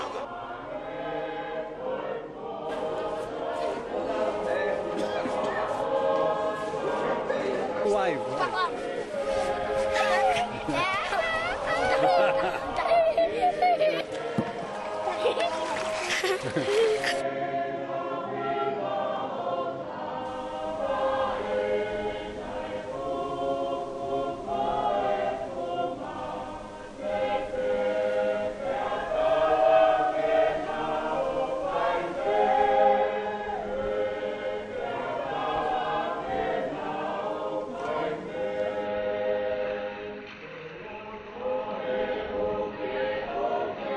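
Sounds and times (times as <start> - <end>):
choir singing: 0.0 - 43.9.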